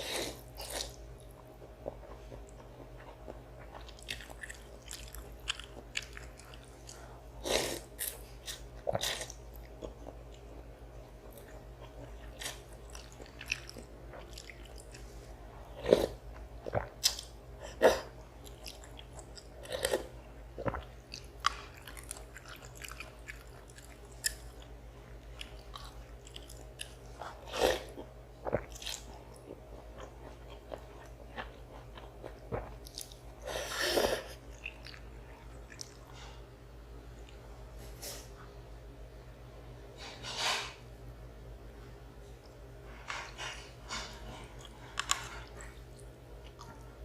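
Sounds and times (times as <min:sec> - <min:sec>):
person chewing food: 0:00.0 - 0:10.6, 0:11.2 - 0:36.4, 0:43.2 - 0:46.9.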